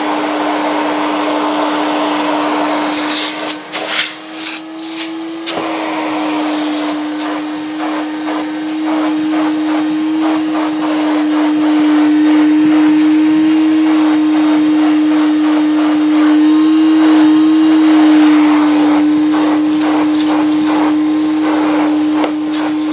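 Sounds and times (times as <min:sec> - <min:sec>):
vacuum cleaner motor whine: 0:00.0 - 0:22.9
suction air rushing: 0:01.6 - 0:22.9.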